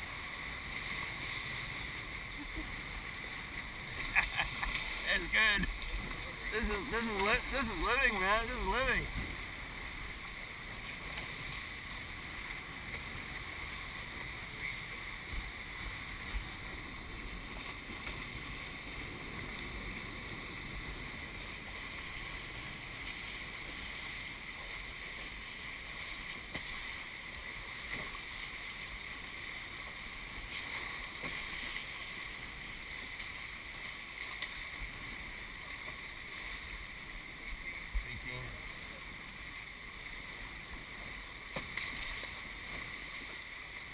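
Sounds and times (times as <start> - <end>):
water rushing past hulls: 0.0 - 43.9.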